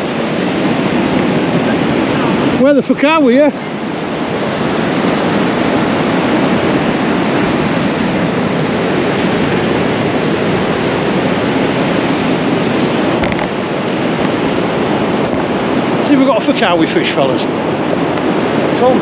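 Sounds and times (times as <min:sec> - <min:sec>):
sea surf breaking on shore: 0:00.0 - 0:19.0
wind noise on microphone: 0:00.0 - 0:19.0.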